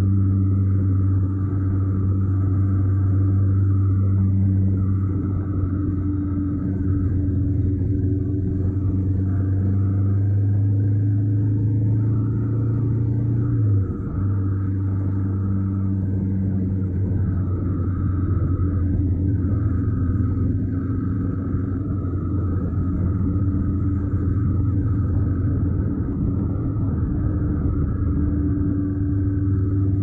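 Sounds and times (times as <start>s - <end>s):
motorcycle engine droning: 0.0s - 30.0s
road and wind noise: 0.0s - 30.0s.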